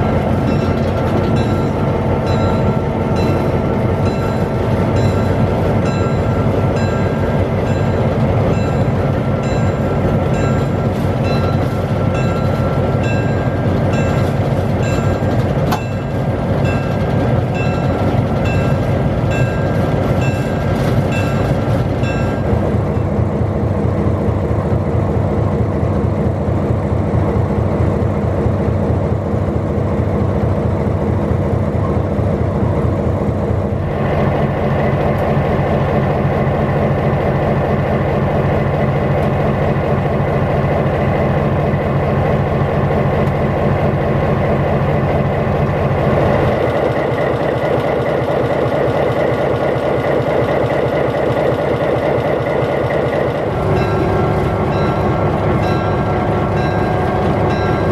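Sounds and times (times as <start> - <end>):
diesel locomotive engine idling: 0.0 - 57.9.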